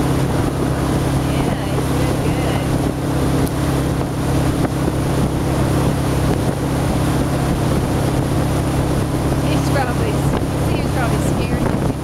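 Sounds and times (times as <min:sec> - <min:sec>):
motorboat engine humming: 0:00.0 - 0:12.0
water rushing: 0:00.0 - 0:12.0
wind on microphone: 0:00.0 - 0:12.0.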